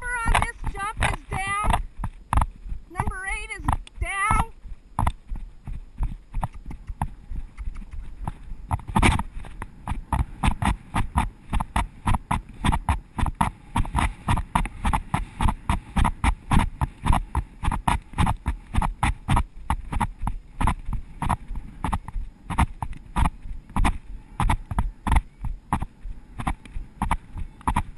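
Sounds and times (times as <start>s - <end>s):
hoofbeats on hard ground: 0.0s - 27.9s.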